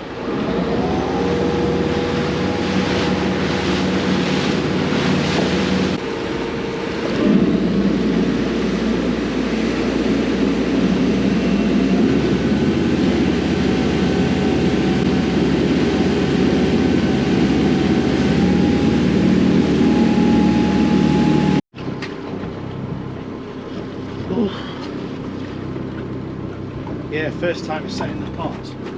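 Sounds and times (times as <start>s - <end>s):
boat engine running: 0.0s - 28.9s
wind and water noise: 0.0s - 28.9s.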